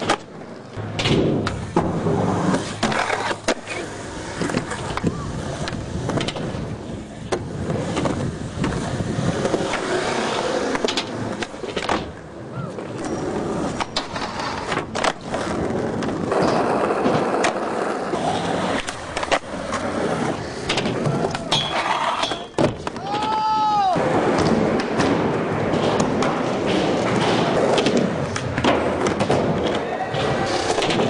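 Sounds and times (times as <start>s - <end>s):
skateboard scraping on rail: 0.0s - 12.2s, 12.8s - 31.0s
skateboard clacks: 0.0s - 31.0s
skateboard wheels rolling: 0.0s - 31.0s.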